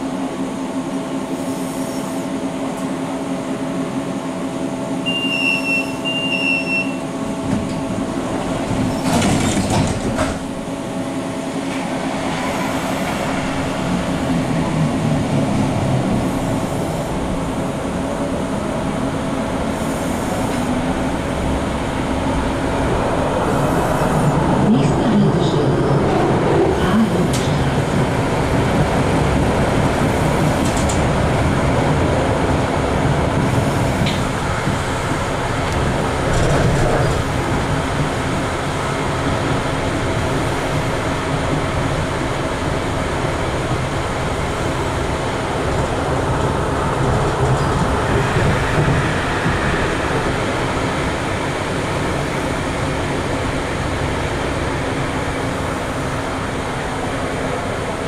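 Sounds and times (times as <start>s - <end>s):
tram wheels rumbling: 6.7s - 58.0s.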